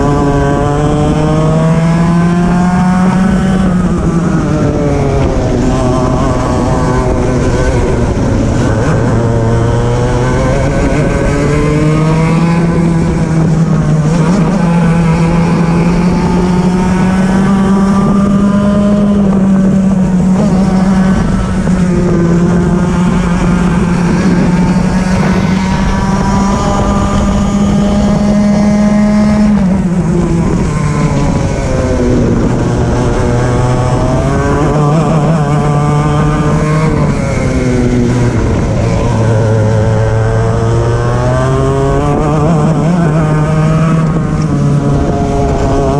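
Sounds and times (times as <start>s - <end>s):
kart engine at full throttle: 0.0s - 45.9s.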